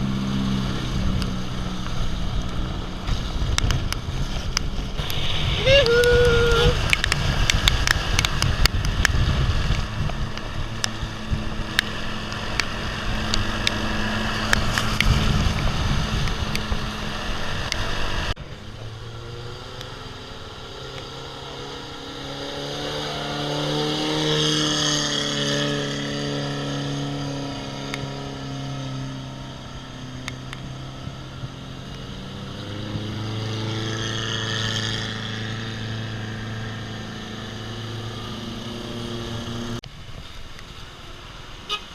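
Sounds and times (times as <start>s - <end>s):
vehicle engine revving: 0.0s - 39.8s
vehicle rattling on rough ride: 0.0s - 41.9s.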